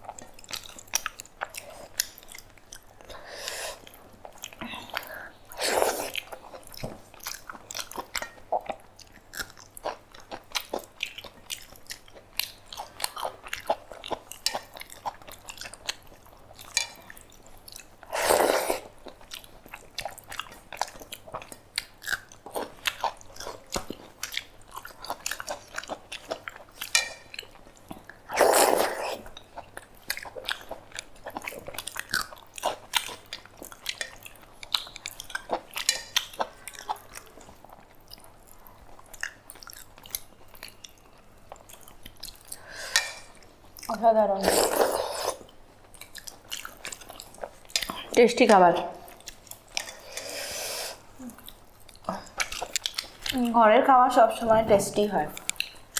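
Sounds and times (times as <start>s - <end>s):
chewing and mouth smacks: 0.0s - 3.2s, 6.1s - 18.1s, 18.7s - 44.0s, 44.8s - 48.2s, 49.0s - 50.3s, 51.0s - 53.5s, 55.3s - 55.9s.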